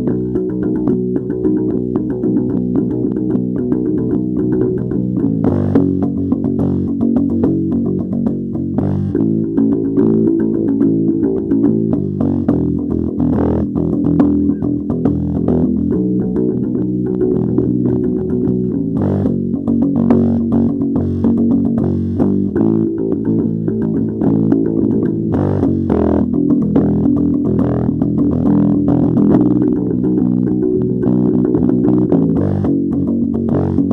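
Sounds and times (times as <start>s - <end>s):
bass guitar and guitar music: 0.0s - 33.9s.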